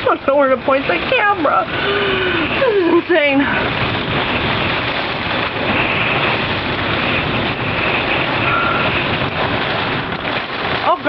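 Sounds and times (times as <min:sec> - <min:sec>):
heavy wind-driven rain: 0:00.0 - 0:11.0
storm wind: 0:00.0 - 0:11.0.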